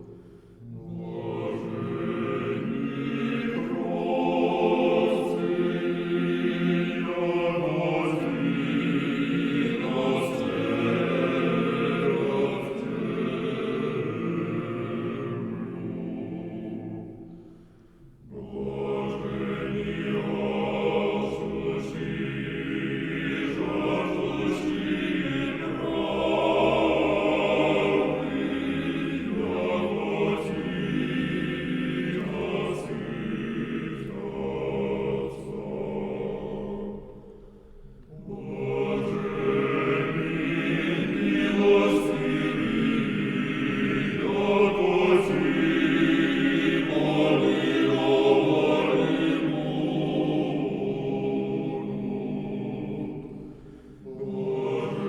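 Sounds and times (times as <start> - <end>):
choir singing a chant: 0.0 - 55.0.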